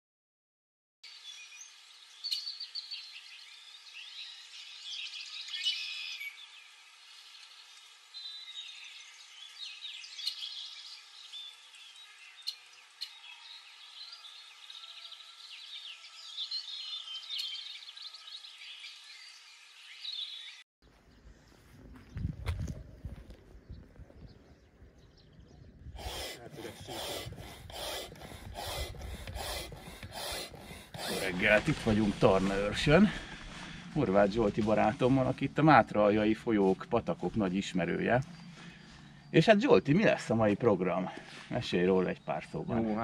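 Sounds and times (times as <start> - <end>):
songbirds chirping and trilling: 1.0 - 43.0.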